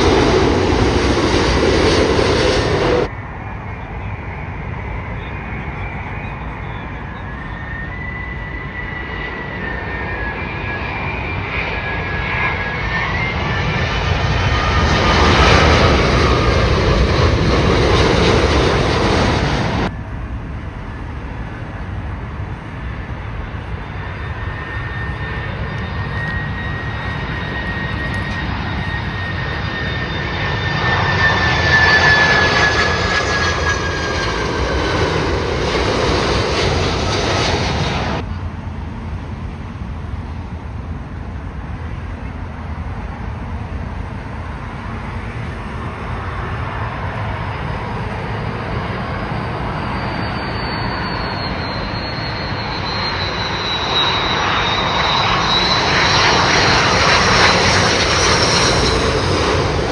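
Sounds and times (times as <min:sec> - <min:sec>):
jet airliner passing: 0:00.0 - 0:59.9.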